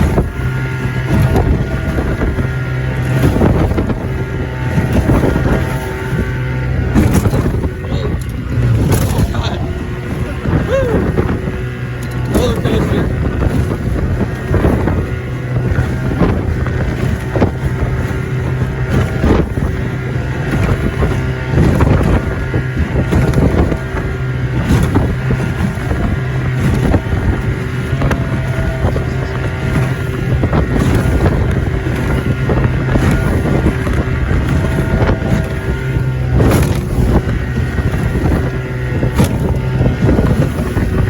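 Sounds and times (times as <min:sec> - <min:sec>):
hull knocking on waves: 0:00.0 - 0:41.0
outboard motor running: 0:00.0 - 0:41.0
wind buffeting microphone: 0:00.0 - 0:41.0.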